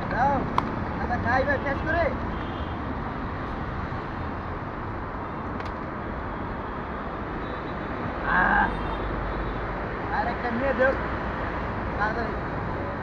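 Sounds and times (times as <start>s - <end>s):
roadside traffic: 0.0s - 13.0s.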